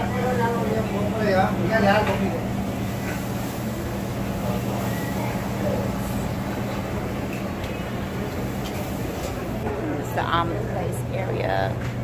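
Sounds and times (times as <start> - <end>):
faint voices: 0.0 - 11.9.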